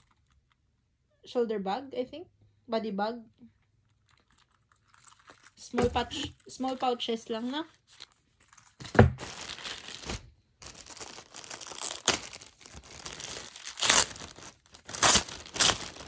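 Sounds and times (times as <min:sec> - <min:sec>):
plastic bags crinkling: 0:00.0 - 0:00.7, 0:03.8 - 0:16.0.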